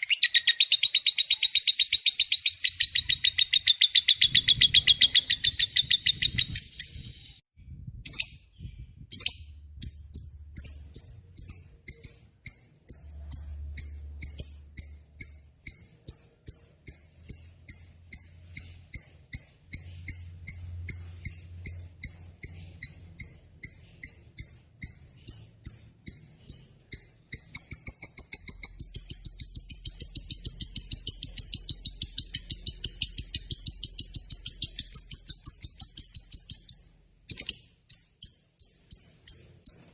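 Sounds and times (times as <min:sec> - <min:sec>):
lovebird chattering song: 0:00.0 - 0:07.4, 0:08.0 - 0:39.9.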